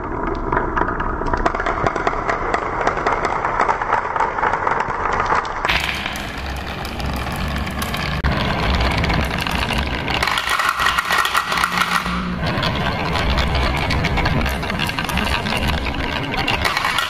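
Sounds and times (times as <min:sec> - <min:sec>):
marbles knocking on wooden track: 0:00.0 - 0:17.0
marbles rolling on plastic track: 0:00.0 - 0:17.0.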